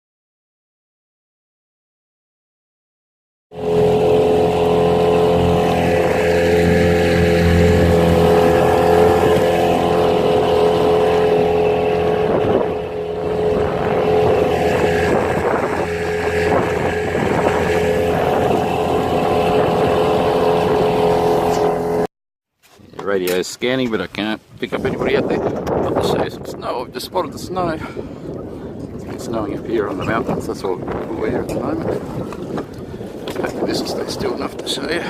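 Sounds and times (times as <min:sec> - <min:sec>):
outboard motor running: 0:03.5 - 0:22.1, 0:24.8 - 0:35.0
waves splashing against hull: 0:03.6 - 0:22.1, 0:22.8 - 0:35.0.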